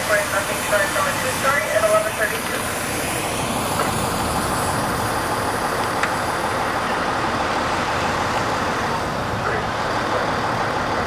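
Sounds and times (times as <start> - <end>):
fire engine running: 0.0 - 11.0.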